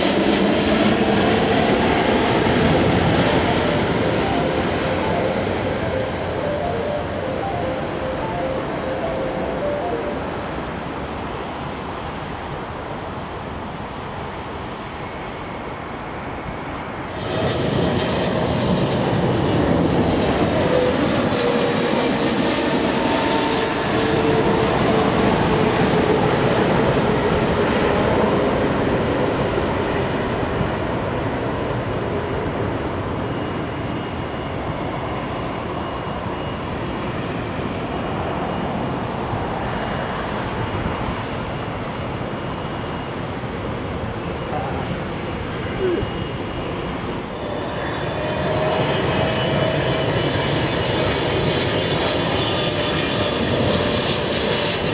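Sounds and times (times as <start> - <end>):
jet engine noise with falling whine: 0.0 - 54.9.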